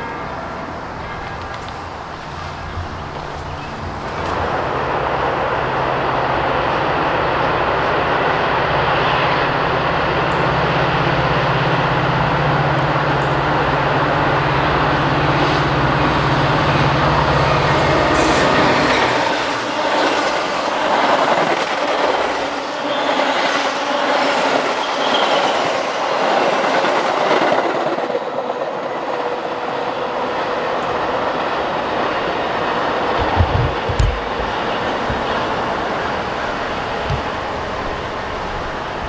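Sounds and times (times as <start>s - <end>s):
train wheels on rails: 0.7s - 39.0s.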